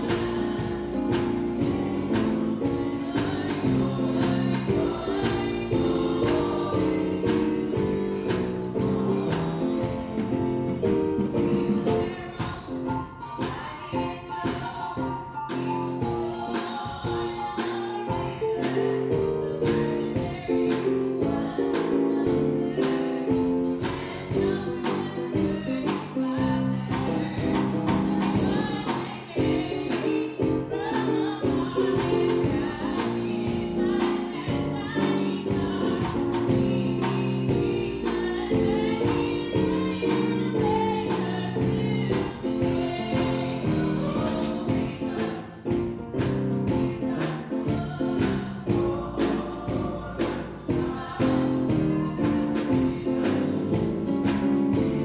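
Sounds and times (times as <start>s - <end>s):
choir singing a carol: 0.0s - 55.0s
instrumental accompaniment: 0.0s - 55.0s.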